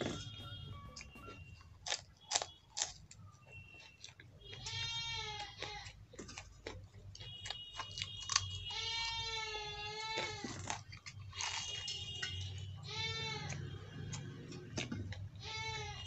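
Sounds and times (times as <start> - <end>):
crunching chillies: 0.0 - 16.0.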